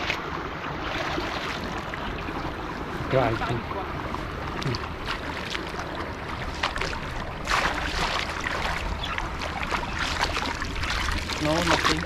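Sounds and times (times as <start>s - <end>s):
floodwater flowing: 0.0s - 12.0s
water splashing: 0.0s - 12.0s.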